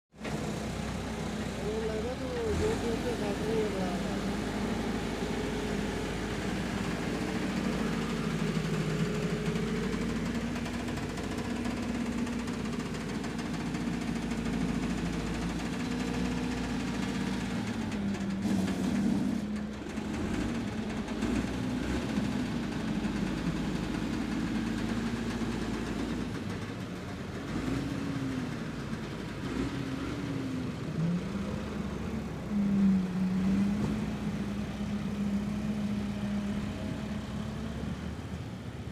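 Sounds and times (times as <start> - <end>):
tractor diesel engine revving: 0.1 - 38.9.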